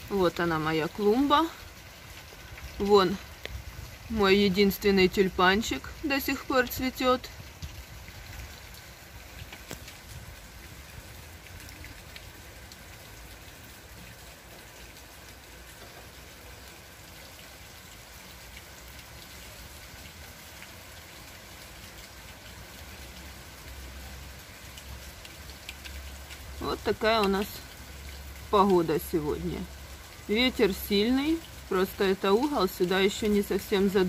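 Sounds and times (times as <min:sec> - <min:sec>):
light rain hissing: 0:00.0 - 0:34.0
single raindrops: 0:00.0 - 0:34.0.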